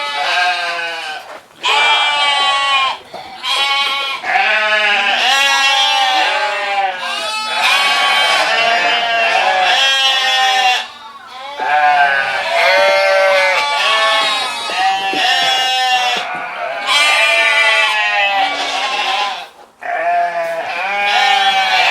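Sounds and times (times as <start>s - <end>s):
sheep bleating: 0.0s - 21.9s.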